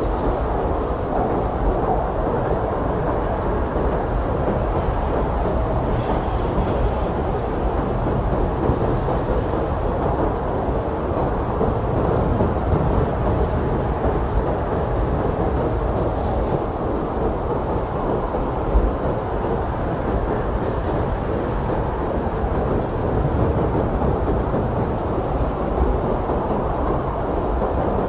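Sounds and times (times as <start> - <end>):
blizzard wind blowing: 0.0 - 28.0.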